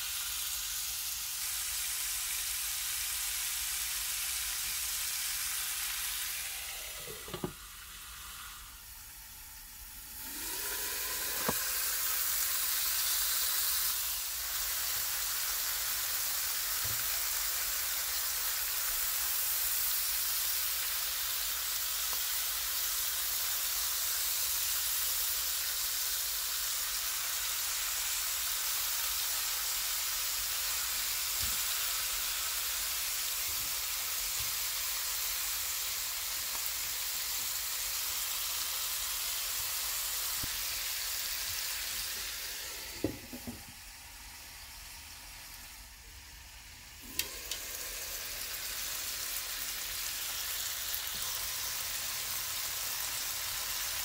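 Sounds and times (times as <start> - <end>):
chicken sizzling in a frying pan: 0.0 - 54.0.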